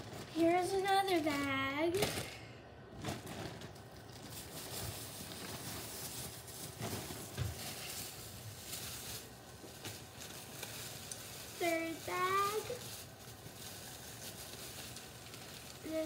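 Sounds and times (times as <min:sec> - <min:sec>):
plastic bag rustling and crinkling: 0:00.0 - 0:16.0.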